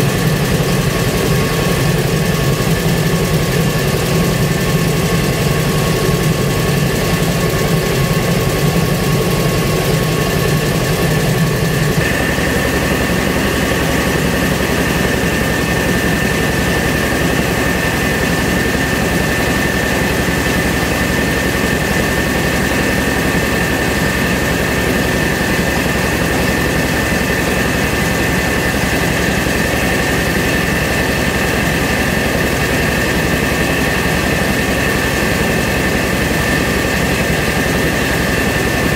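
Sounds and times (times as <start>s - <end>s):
rice mill machine drone: 0.0s - 38.9s
steady high machine whine: 0.0s - 38.9s.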